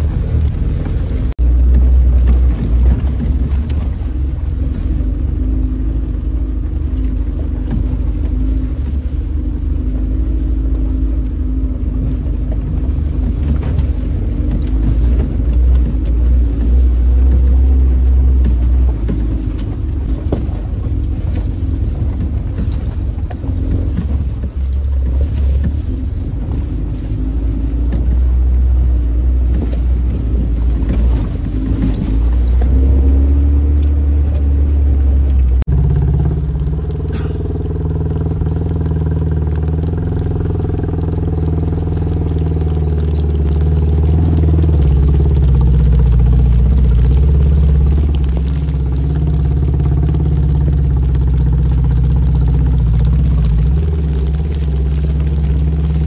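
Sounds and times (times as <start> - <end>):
jeep engine rumble: 0.0 - 56.0
road noise: 0.0 - 56.0.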